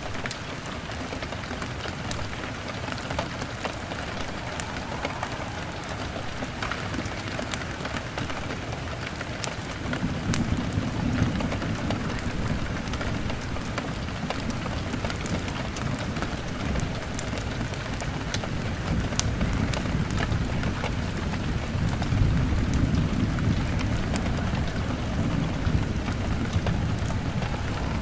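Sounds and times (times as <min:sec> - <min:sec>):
crackling log fire: 0:00.0 - 0:28.0
rain hammering on a window: 0:00.0 - 0:28.0.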